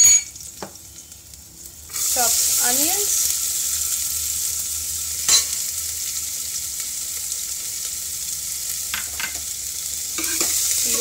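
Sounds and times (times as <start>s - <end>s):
onions sizzling in hot oil: 0.2s - 11.0s.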